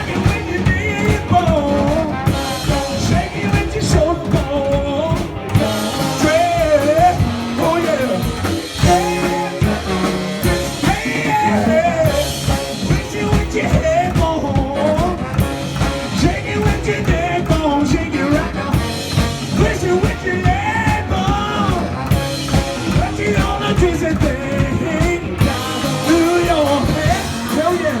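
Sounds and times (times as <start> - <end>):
person singing: 0.0 - 28.0
rock band playing: 0.0 - 28.0
steady drum beat: 0.0 - 28.0.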